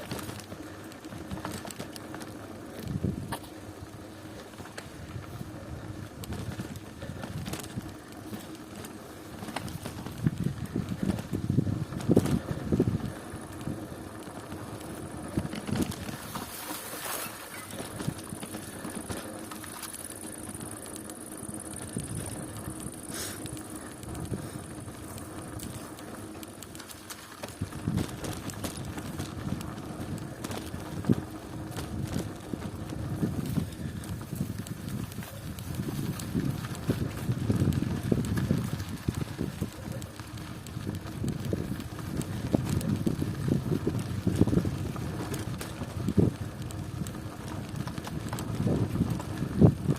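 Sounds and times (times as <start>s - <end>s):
wind buffeting microphone: 0.0s - 16.7s, 17.3s - 49.9s
bicycle tyres and drivetrain humming: 0.0s - 49.9s.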